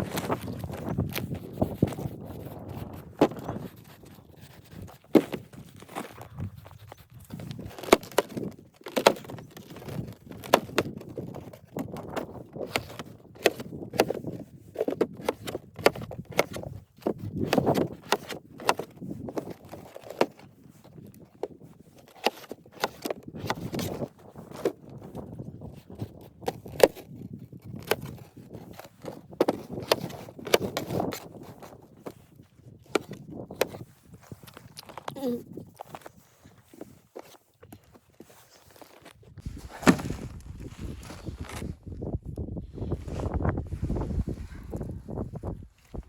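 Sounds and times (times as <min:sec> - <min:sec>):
soft rustling: 0:00.0 - 0:42.1.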